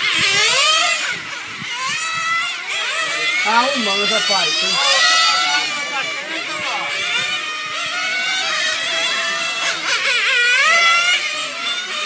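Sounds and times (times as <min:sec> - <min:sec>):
high-pitched model car engines whining: 0:00.0 - 0:12.0.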